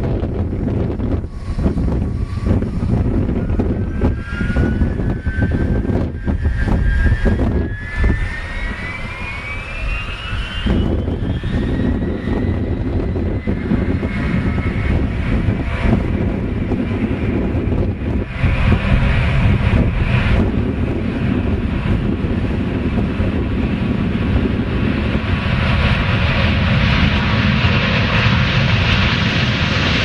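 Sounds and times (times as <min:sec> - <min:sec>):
deep jet rumble: 0:00.0 - 0:30.0
jet engine whine: 0:00.0 - 0:30.0.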